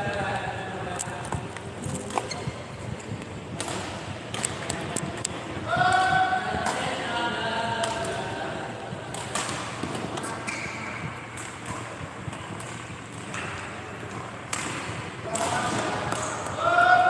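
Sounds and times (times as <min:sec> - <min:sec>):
rackets hitting shuttlecock: 0:01.0 - 0:07.1, 0:07.7 - 0:08.4, 0:09.0 - 0:17.0.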